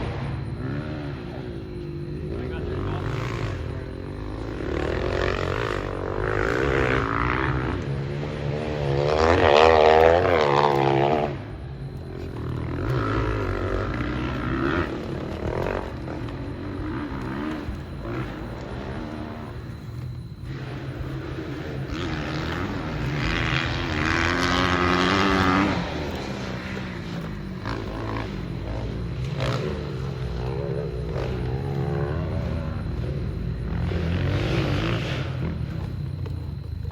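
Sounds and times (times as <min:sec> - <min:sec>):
engine revving: 0:00.0 - 0:36.9.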